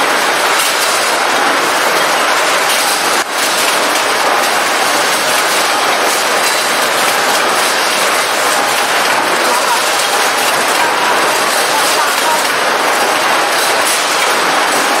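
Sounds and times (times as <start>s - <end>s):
machinery metallic clatter: 0.0s - 15.0s.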